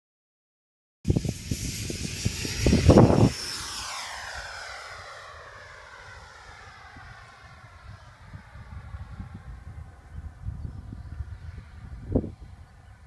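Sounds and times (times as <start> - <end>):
wind buffeting microphone: 1.1 - 13.0.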